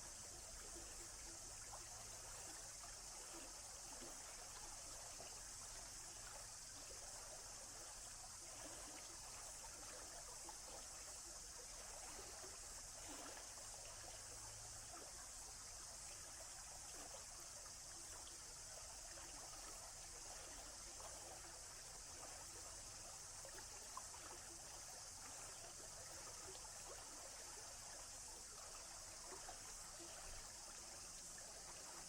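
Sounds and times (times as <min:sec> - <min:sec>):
stream trickling and babbling: 0:00.0 - 0:32.0.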